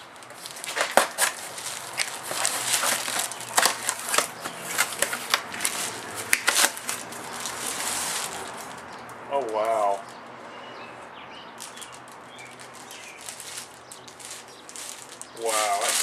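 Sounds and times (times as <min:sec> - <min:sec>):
plastic crinkling and rustling: 0:00.0 - 0:10.2, 0:11.6 - 0:16.0
packaging being torn: 0:00.2 - 0:08.9, 0:11.6 - 0:16.0.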